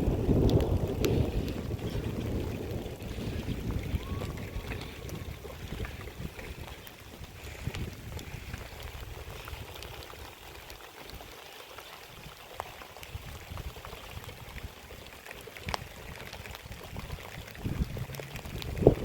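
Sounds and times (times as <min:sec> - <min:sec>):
rain falling: 0:00.0 - 0:19.0
wind rumbling on microphone: 0:00.0 - 0:19.0.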